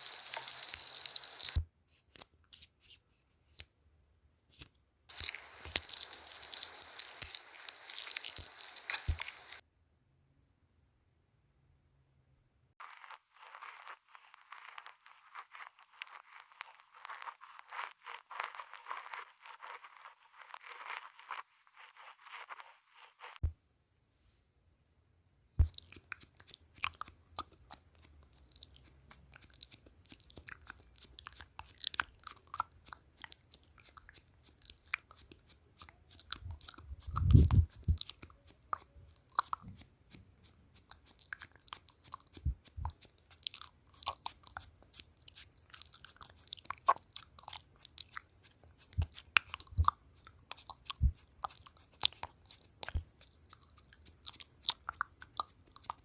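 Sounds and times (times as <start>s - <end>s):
small crisp clicks and crinkles: 4.5s - 9.6s, 12.8s - 23.5s, 25.6s - 56.0s.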